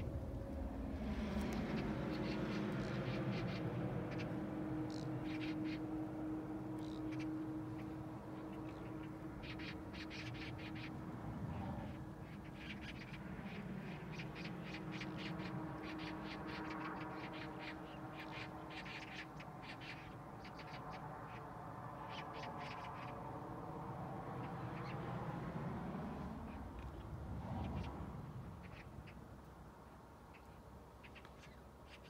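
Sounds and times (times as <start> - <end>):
low steady hum: 0.0 - 28.1.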